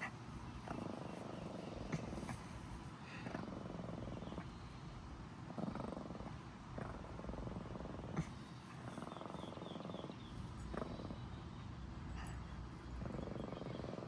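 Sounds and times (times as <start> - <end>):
cat purring: 0.0 - 4.7, 5.4 - 14.0.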